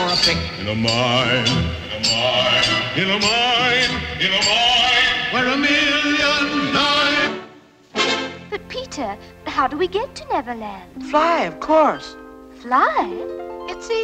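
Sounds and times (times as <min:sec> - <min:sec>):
music with wavering melody: 0:00.0 - 0:06.4, 0:08.7 - 0:14.0.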